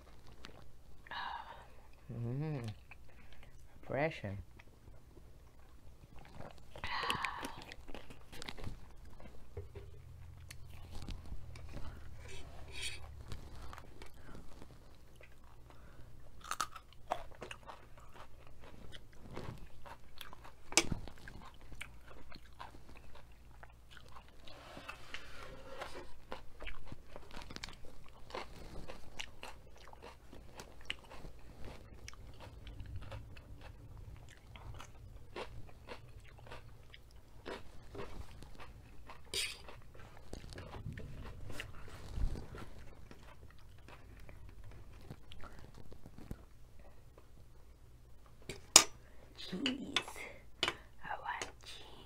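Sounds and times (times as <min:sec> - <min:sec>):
faint low hum: 0:00.0 - 0:52.0
person chewing crunchy food: 0:04.5 - 0:47.6.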